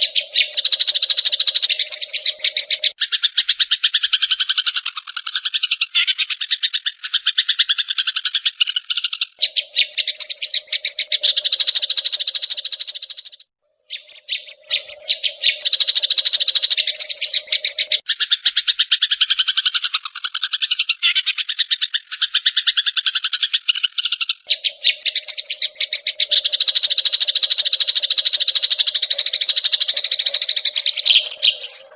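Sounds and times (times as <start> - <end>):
songbird chatter: 0.0 - 31.9.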